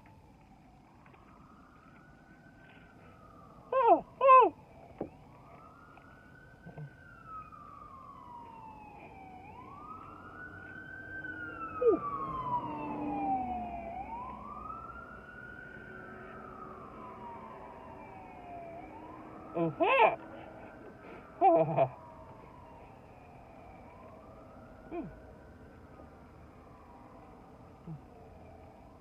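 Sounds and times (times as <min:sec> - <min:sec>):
emergency vehicle siren wailing: 0:00.0 - 0:29.0.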